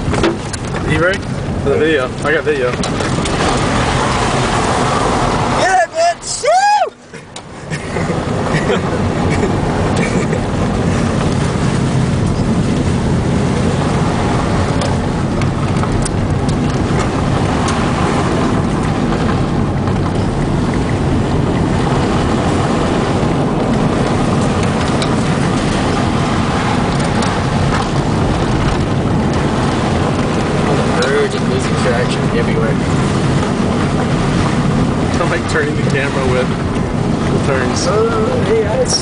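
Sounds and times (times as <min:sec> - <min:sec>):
car engine under load: 0:00.0 - 0:39.0
tyre and road noise: 0:00.0 - 0:39.0.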